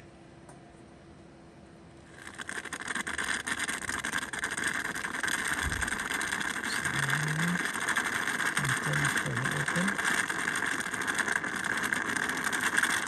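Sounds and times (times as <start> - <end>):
steam and water hissing: 2.1 - 13.0.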